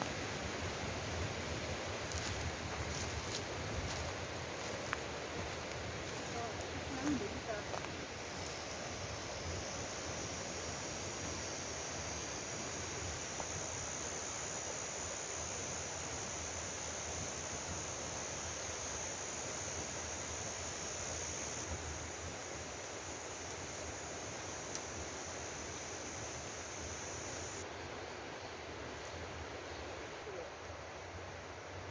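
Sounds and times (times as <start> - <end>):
high-pitched hiss: 0.0 - 31.9
stream rushing: 0.0 - 31.9.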